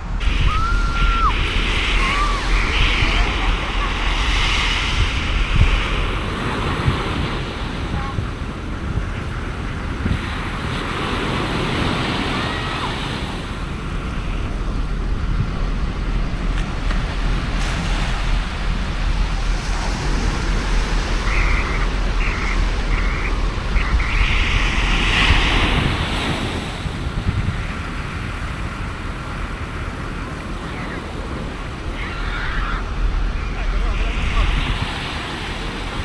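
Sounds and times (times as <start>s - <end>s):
surf breaking on beach: 0.0s - 36.0s
wind buffeting microphone: 0.0s - 36.0s.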